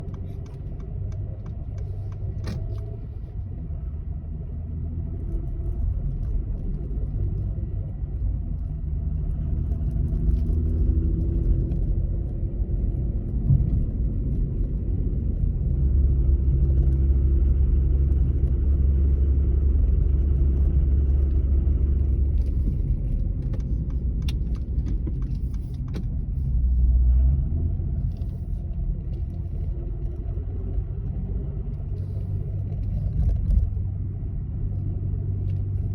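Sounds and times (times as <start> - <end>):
car engine rumbling: 0.0 - 35.9.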